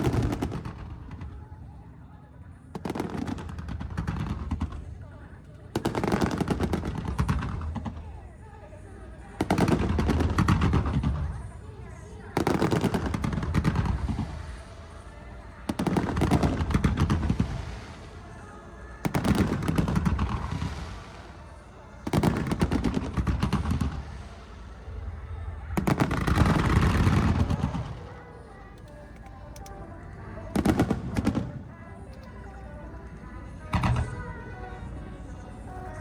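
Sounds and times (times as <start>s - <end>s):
fireworks bangs and crackles: 0.0s - 2.0s, 2.6s - 8.4s, 9.2s - 29.8s, 30.4s - 32.5s, 33.6s - 34.5s.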